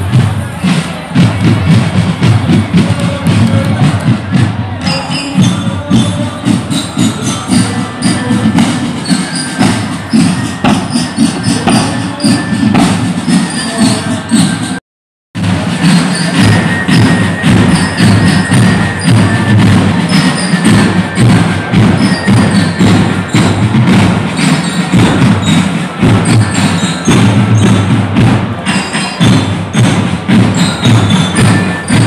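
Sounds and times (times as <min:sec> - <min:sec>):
low booming drum beat: 0:00.0 - 0:14.8, 0:15.4 - 0:32.0
rapid snare-like drum strikes: 0:00.0 - 0:14.8, 0:15.4 - 0:32.0.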